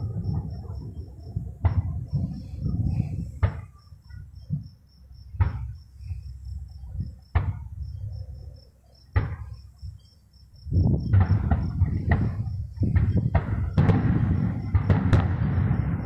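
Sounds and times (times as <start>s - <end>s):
fireworks bangs with rumble: 0.0s - 8.2s, 9.0s - 16.0s
crickets chirping: 0.0s - 16.0s.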